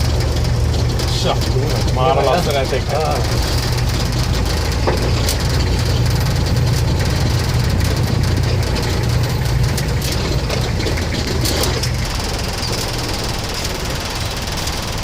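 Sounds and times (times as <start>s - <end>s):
jeep engine droning: 0.0s - 15.0s.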